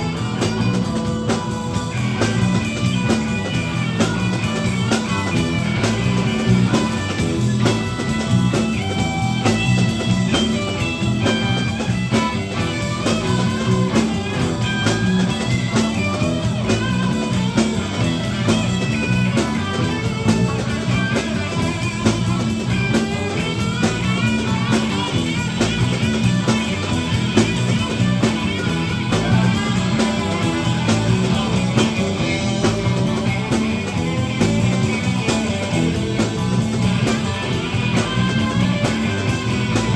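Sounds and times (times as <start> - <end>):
electric lead guitar melody: 0.0 - 39.9
rock band playing: 0.0 - 39.9.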